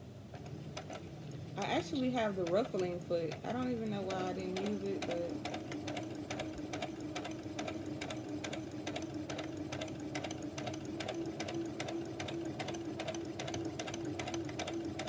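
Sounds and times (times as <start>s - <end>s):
sewing machine running: 1.6s - 15.0s.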